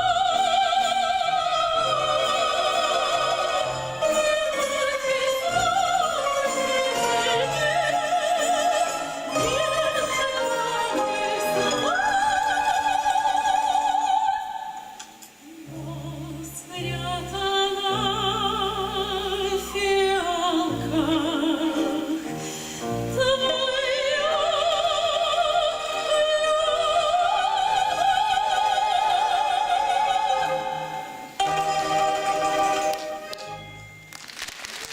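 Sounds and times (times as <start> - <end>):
classical orchestral accompaniment: 0.0 - 14.1, 15.6 - 34.3
operatic singing: 0.0 - 33.4.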